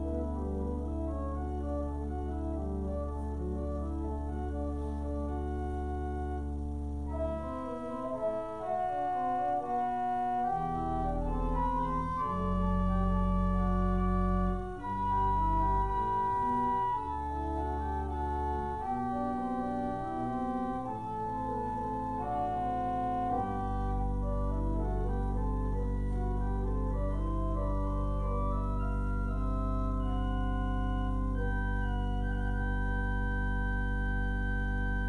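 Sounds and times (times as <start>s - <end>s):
pipe organ playing: 0.0s - 35.0s.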